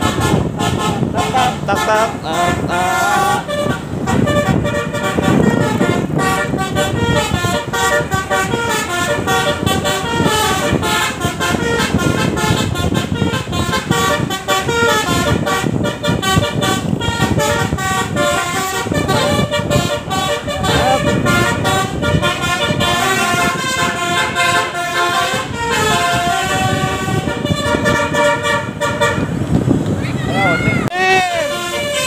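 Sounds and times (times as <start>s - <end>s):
bus horn playing a tune: 0.0s - 29.9s, 30.8s - 32.0s.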